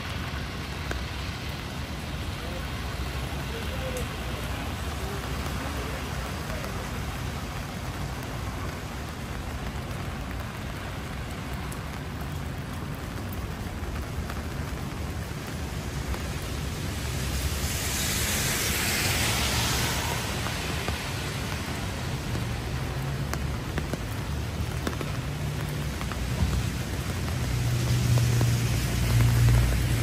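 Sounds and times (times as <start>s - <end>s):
low city street rumble: 0.0s - 30.0s
rain on an umbrella: 0.0s - 30.0s.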